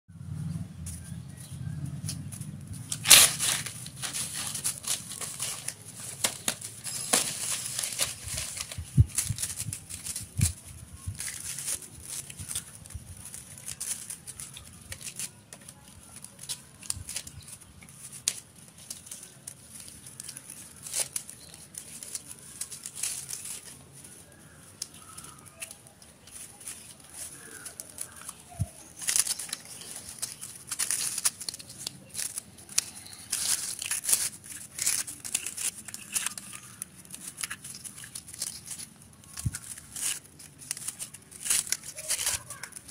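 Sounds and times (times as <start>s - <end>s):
paper crinkling and rustling: 0.8s - 42.9s.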